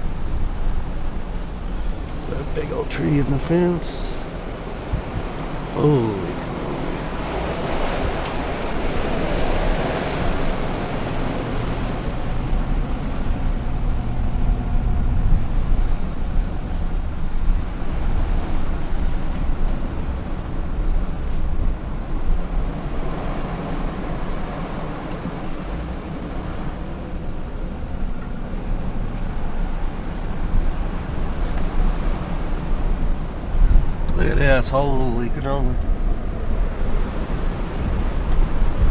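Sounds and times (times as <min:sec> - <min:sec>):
car driving rumble: 0:00.0 - 0:38.9
wind buffeting the microphone: 0:04.2 - 0:05.8, 0:06.4 - 0:34.5, 0:35.4 - 0:38.9.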